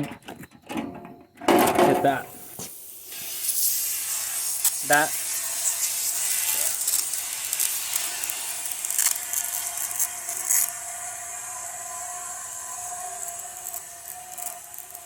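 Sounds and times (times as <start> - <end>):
water spray hissing on metal: 2.0 - 15.0.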